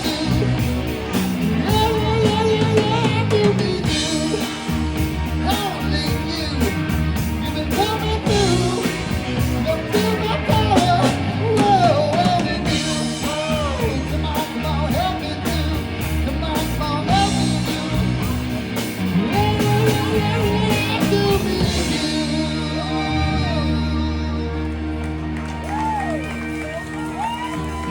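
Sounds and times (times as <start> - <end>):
person singing: 0.0 - 25.0
rock band playing: 0.0 - 27.9.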